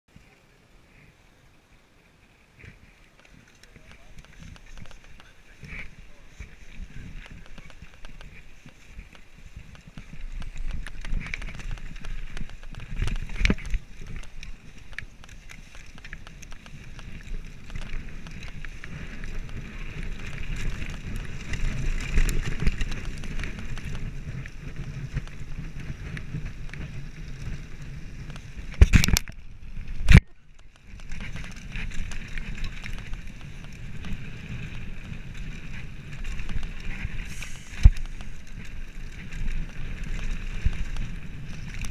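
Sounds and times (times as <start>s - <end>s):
bike tyres rumbling on dirt: 2.2s - 41.9s
bike clicks and rattles: 2.6s - 41.9s.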